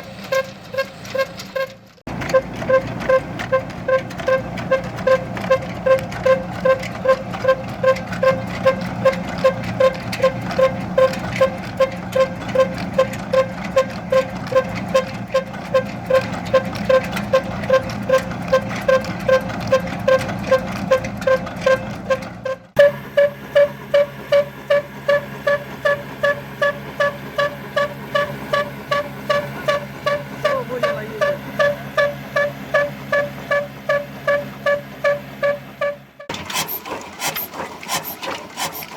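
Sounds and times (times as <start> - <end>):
old stationary engine running: 0.0 - 38.9.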